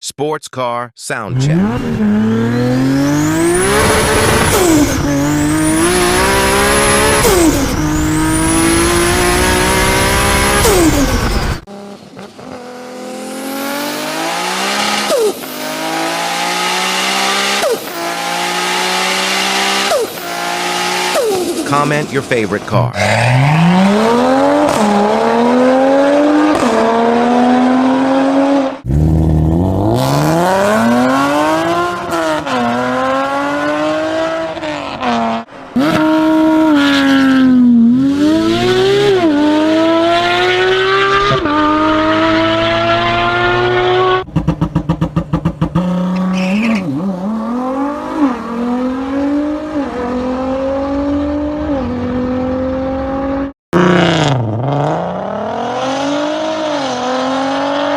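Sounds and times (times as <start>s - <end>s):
sports car engines accelerating: 1.3s - 57.9s.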